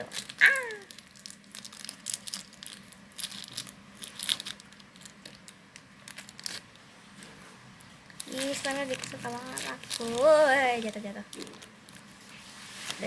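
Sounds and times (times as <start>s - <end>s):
slime crackling and tearing: 0.0s - 6.8s, 8.1s - 13.0s.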